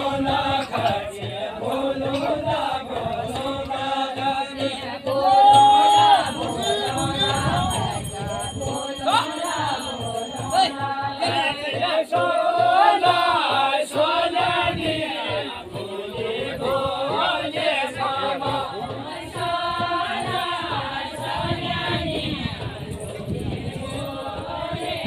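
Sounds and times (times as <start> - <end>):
group singing a folk song: 0.0 - 25.0
hand drum beat: 0.0 - 25.0.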